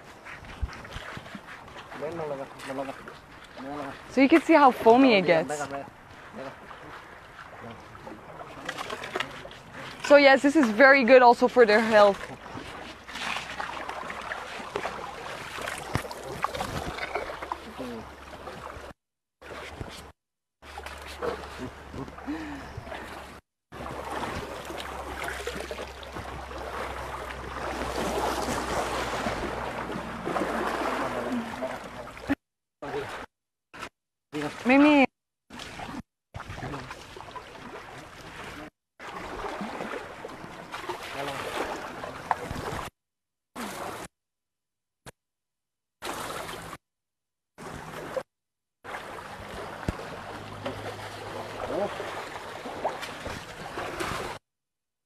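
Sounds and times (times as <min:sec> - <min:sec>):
river water splashing: 0:00.0 - 0:42.9, 0:43.6 - 0:44.1, 0:46.0 - 0:46.8, 0:47.6 - 0:48.2, 0:48.8 - 0:54.4.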